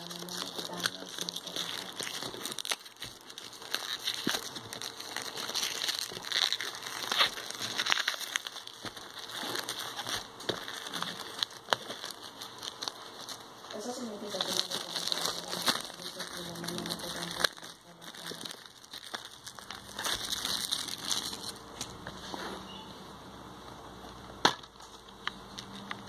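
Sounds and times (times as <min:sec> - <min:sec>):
plastic shrink wrap crinkling: 0:00.0 - 0:22.2.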